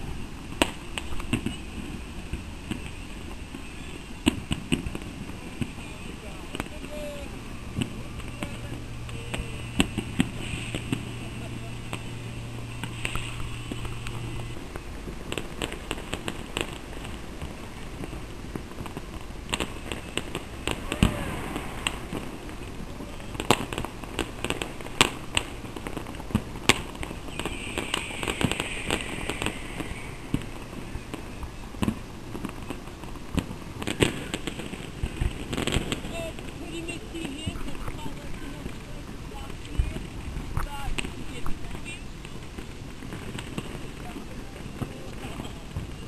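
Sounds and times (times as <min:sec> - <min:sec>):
fireworks and firecrackers banging: 0:00.0 - 0:46.0.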